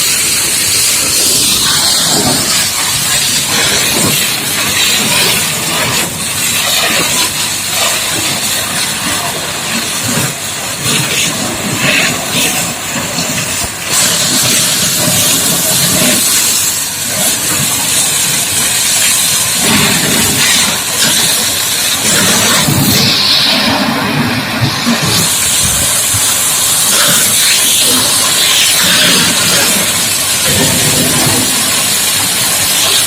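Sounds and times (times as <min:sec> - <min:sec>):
water jet hissing spray: 0:00.0 - 0:33.0.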